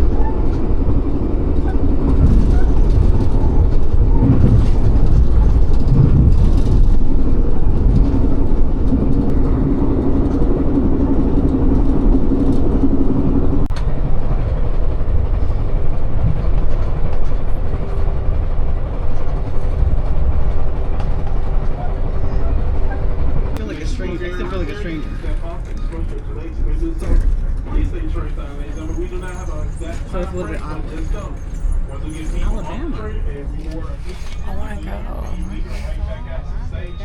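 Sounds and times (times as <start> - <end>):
train carriage rumble: 0.0 - 37.0.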